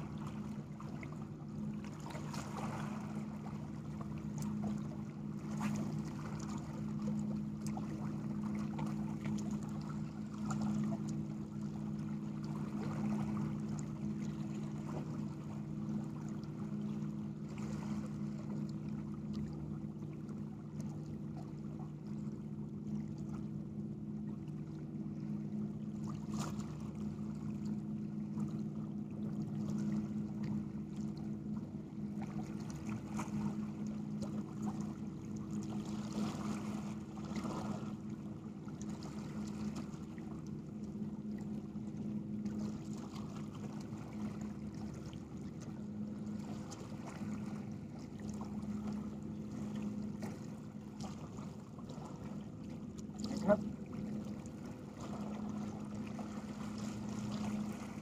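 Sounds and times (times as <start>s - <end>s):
low engine hum: 0.0s - 58.0s.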